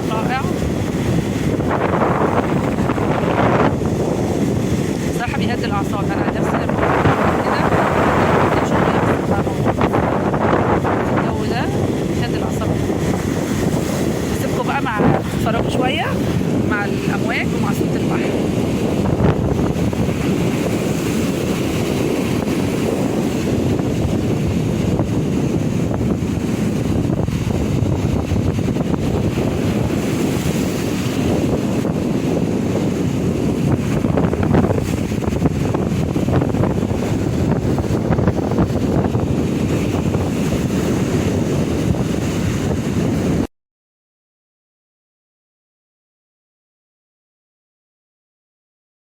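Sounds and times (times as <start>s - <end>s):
sea waves on shore: 0.0s - 43.5s
wind buffeting microphone: 0.0s - 43.5s.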